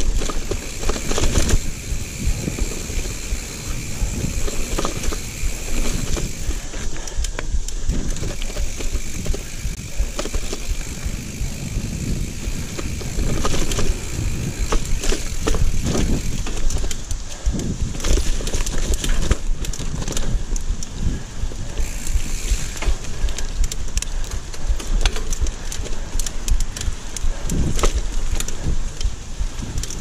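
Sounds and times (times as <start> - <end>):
bike rattling and knocking: 0.0 - 30.0
bike tyre noise and rumble: 0.0 - 30.0.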